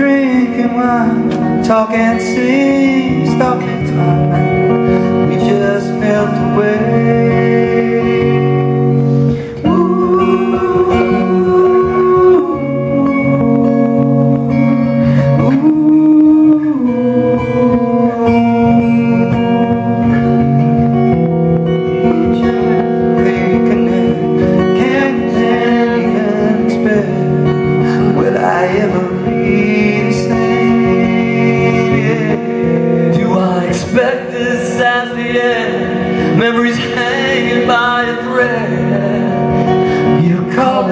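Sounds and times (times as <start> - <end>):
guitar: 0.0 - 40.9
live rock band playing: 0.0 - 40.9
person singing long notes: 0.0 - 40.9.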